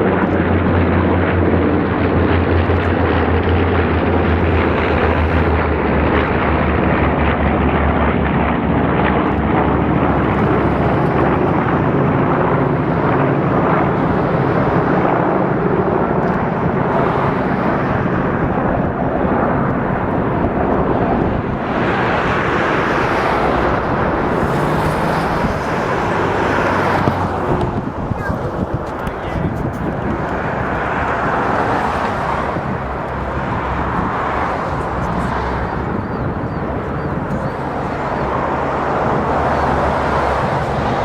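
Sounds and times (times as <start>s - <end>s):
propeller plane flying by: 0.0s - 41.0s.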